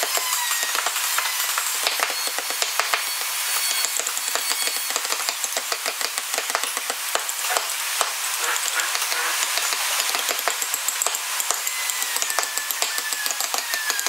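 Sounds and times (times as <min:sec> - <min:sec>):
chisels tapping and chipping wood: 0:00.0 - 0:14.0
steady hiss: 0:00.0 - 0:14.0.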